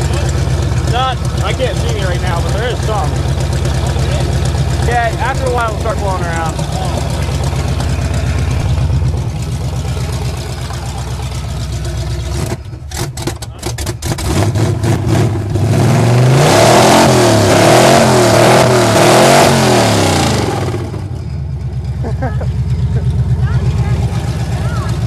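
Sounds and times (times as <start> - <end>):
engine idling and revving: 0.0 - 25.0.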